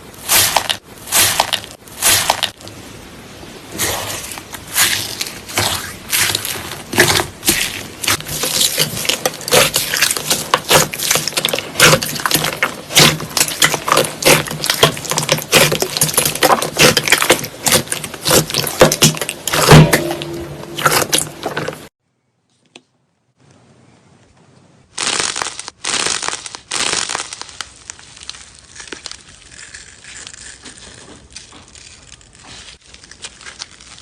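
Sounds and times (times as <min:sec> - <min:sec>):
slime crackling and popping: 0:00.1 - 0:02.6, 0:03.7 - 0:21.8, 0:25.0 - 0:34.0.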